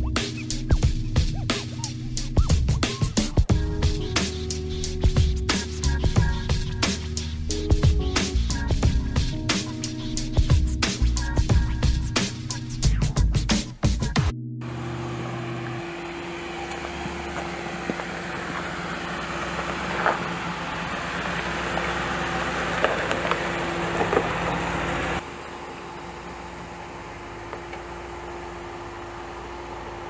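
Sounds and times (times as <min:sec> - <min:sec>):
truck engine at low revs: 0:00.0 - 0:30.0.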